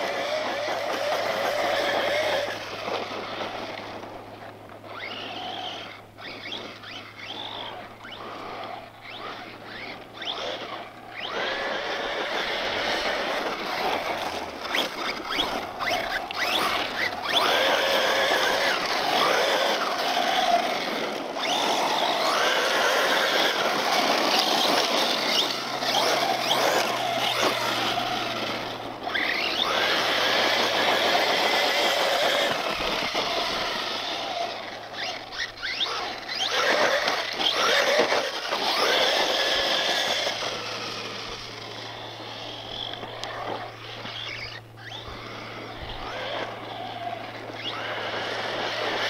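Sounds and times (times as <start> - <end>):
electric motor whining: 0.0 - 49.0
tyres sliding on loose dirt: 0.0 - 49.0.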